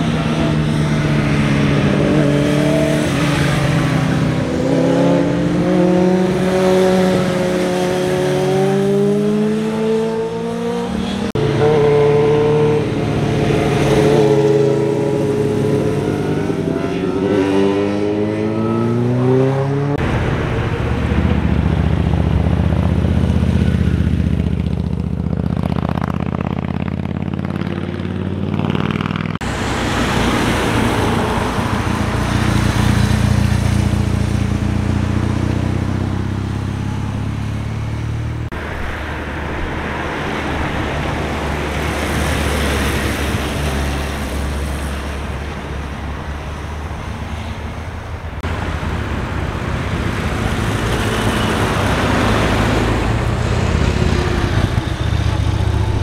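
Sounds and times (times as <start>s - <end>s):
motorcycle engines passing: 0.0s - 56.0s.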